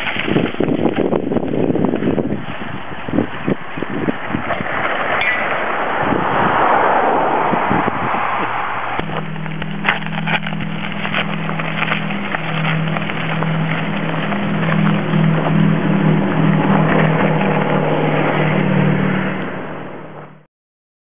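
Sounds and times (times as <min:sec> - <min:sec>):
rushing noise: 0:00.0 - 0:20.4
low motor hum: 0:00.0 - 0:20.5.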